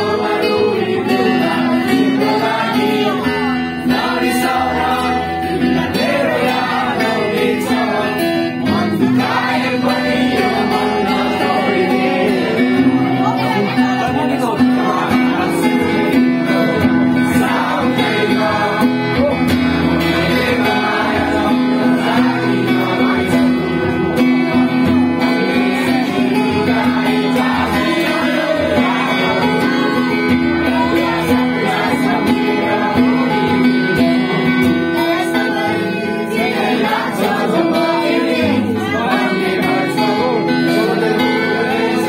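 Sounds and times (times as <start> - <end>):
fingerstyle acoustic guitar: 0.0 - 42.0
voices singing: 0.0 - 42.0.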